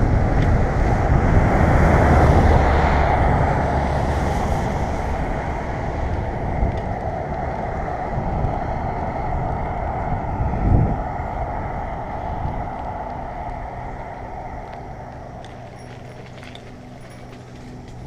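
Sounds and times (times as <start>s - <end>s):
road and traffic noise: 0.0s - 18.0s
wind rumbling on microphone: 0.0s - 18.0s.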